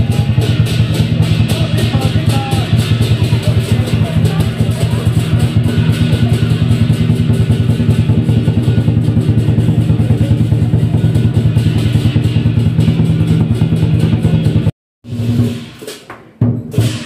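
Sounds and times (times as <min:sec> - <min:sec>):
big drum booming: 0:00.0 - 0:17.0
cymbal clashes: 0:00.0 - 0:17.0.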